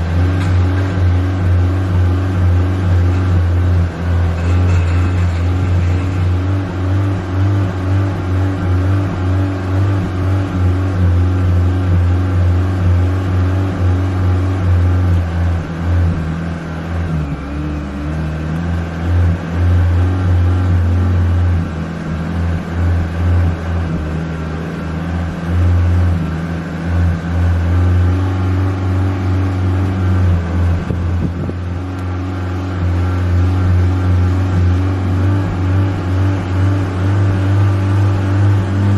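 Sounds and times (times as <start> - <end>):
car engine idling with blips: 0.0 - 38.9.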